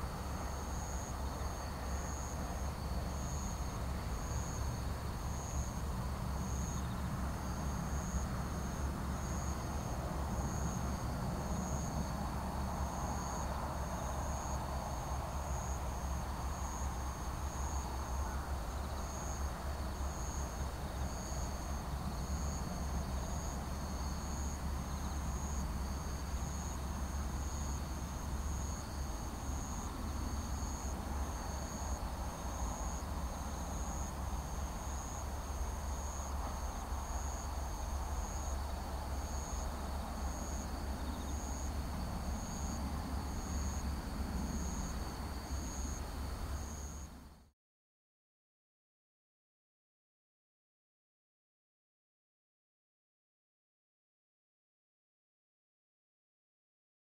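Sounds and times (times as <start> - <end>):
insects chirping: 0.1 - 47.5.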